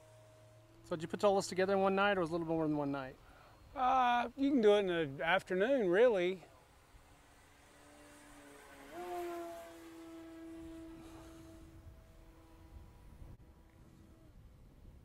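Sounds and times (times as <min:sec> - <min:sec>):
model plane motor humming: 0:00.0 - 0:15.0.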